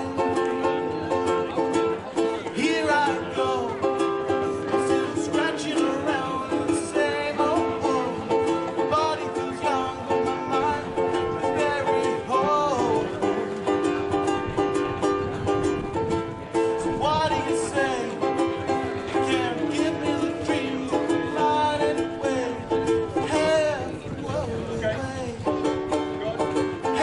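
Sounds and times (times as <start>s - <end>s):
sliding melody line: 0.0s - 27.0s
strummed string accompaniment: 0.0s - 27.0s.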